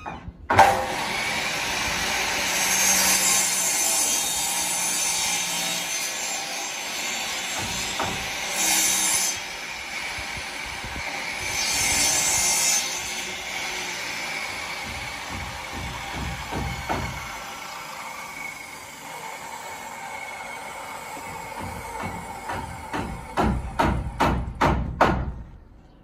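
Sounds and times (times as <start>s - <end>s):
circular saw cutting wood: 0.5s - 23.8s.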